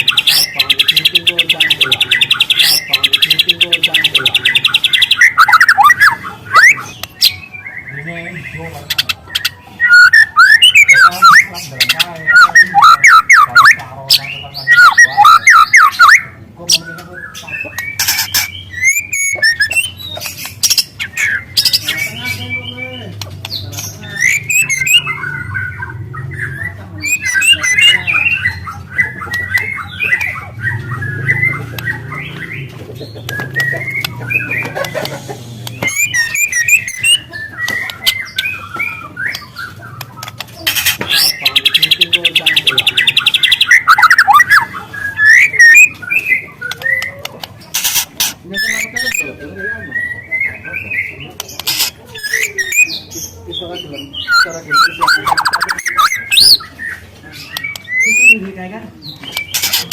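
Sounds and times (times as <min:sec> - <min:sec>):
songbird singing whistles and trills: 0:00.0 - 0:08.2, 0:08.9 - 0:23.1, 0:24.0 - 0:35.1, 0:35.7 - 0:40.4, 0:41.0 - 0:47.4, 0:48.5 - 0:59.9.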